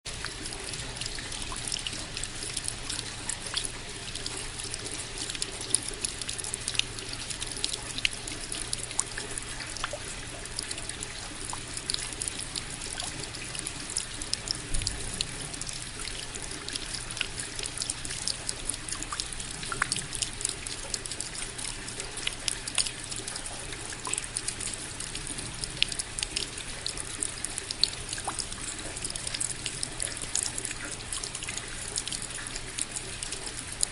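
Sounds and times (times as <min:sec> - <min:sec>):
raindrops ticking and dripping: 0:00.0 - 0:33.9
steady rain: 0:00.1 - 0:33.9.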